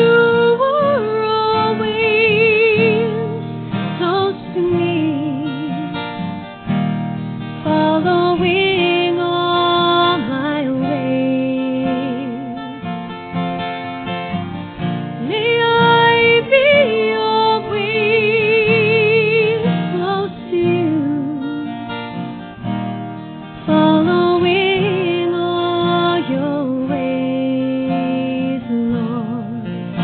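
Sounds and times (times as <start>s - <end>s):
person singing with vibrato: 0.0s - 6.2s, 7.6s - 12.7s, 15.2s - 21.8s, 23.6s - 30.0s
acoustic guitar: 0.0s - 30.0s.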